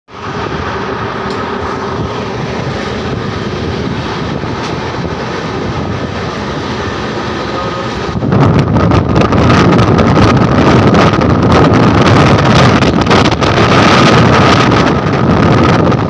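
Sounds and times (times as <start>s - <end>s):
train wheels rumbling on rail: 0.1s - 16.0s.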